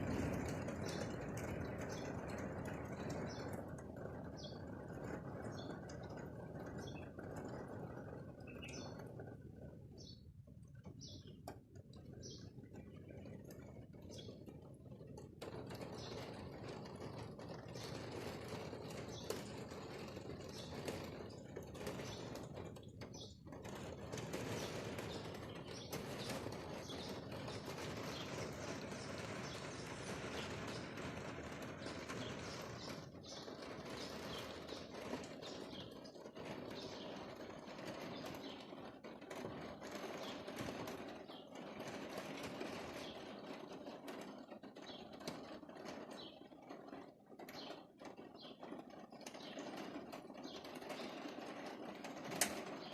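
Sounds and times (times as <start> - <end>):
rain falling: 0.0 - 10.0, 10.6 - 52.9
small birds chirping: 0.0 - 52.9.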